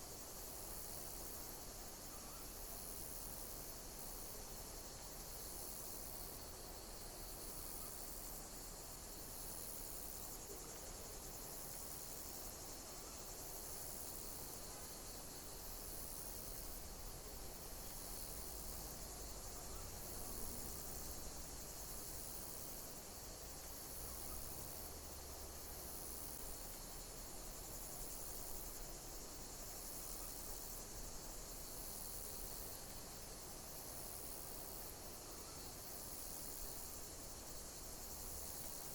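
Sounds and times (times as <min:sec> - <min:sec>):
loud high insect chirp: 0:00.1 - 0:38.9.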